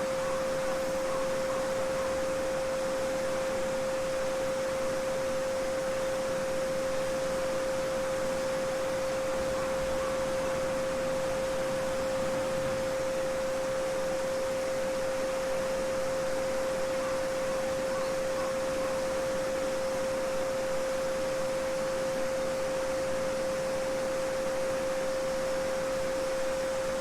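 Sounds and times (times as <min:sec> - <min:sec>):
steady sine tone: 0:00.0 - 0:27.0.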